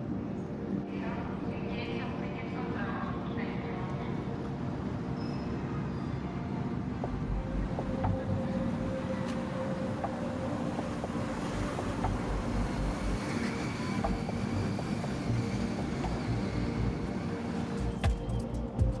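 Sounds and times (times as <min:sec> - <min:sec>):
ship engines humming: 0:00.0 - 0:19.0.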